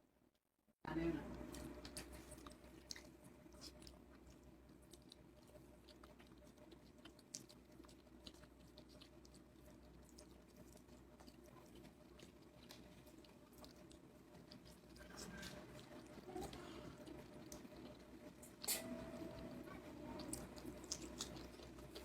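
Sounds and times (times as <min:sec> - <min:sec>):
person chewing food: 0:01.2 - 0:22.0.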